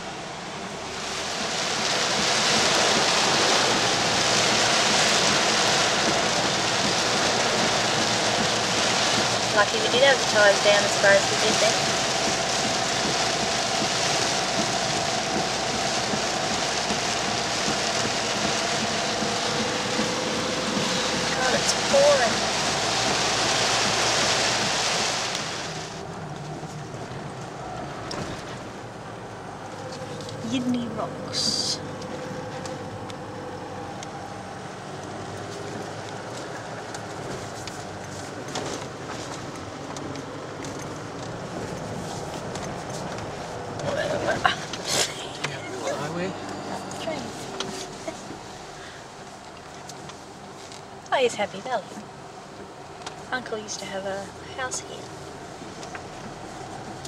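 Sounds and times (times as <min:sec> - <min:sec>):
heavy rain on car roof: 0:00.0 - 0:57.0
vehicle running noise: 0:00.0 - 0:57.0.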